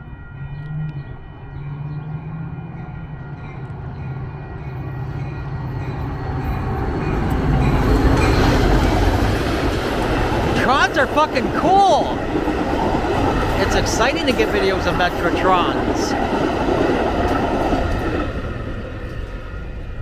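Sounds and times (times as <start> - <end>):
rail and wheel hiss: 4.0 - 20.0.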